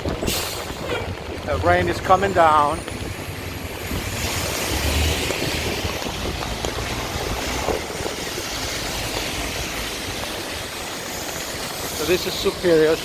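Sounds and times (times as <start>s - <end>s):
low vehicle rumble: 0.0s - 12.2s
tyres on wet pavement: 0.0s - 13.0s
falling rain hiss: 0.3s - 13.0s.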